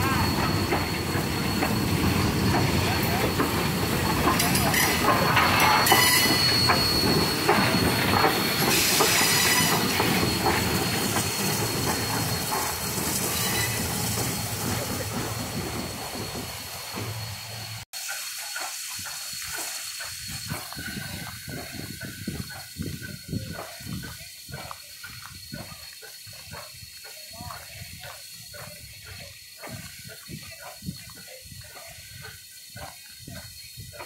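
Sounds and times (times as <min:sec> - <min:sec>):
steam locomotive rumbling past: 0:00.0 - 0:34.0.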